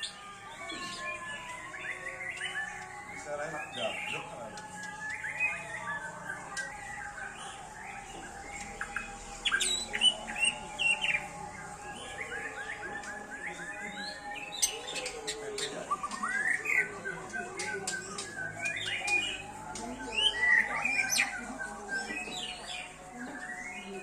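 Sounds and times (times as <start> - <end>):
bird singing whistled notes: 0.0 - 24.0.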